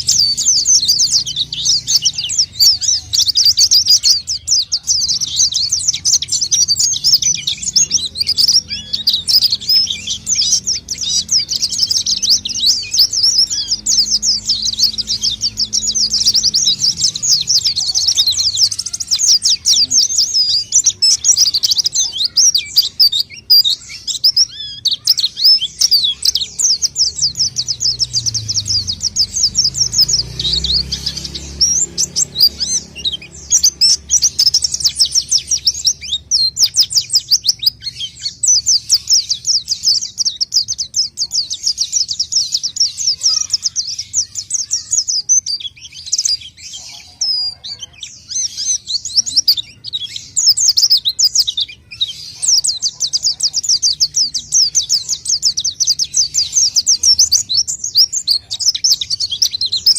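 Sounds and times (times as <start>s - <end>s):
bird high twittering song: 0.0s - 59.9s.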